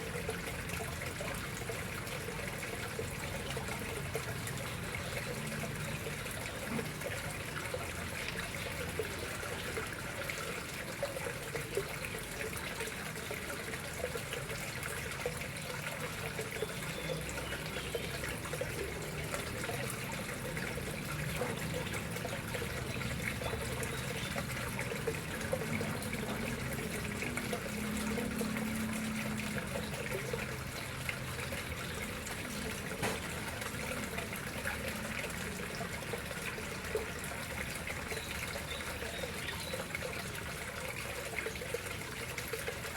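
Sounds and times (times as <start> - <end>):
water trickling into pond: 0.0 - 42.9.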